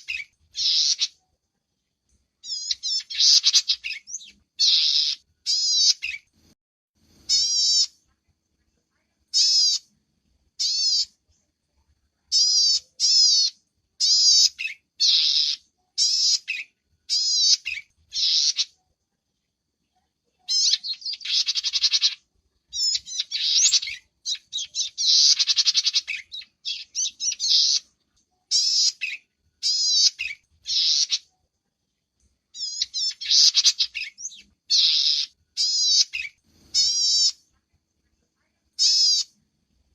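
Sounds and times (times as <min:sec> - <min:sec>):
small songbirds chirping: 0:00.0 - 0:01.4, 0:02.1 - 0:07.9, 0:09.3 - 0:19.1, 0:19.9 - 0:37.6, 0:38.8 - 0:39.9.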